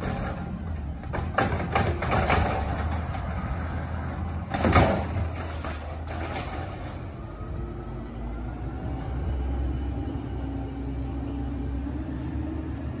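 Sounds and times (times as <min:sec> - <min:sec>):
garbage truck engine rumble: 0:00.0 - 0:13.0.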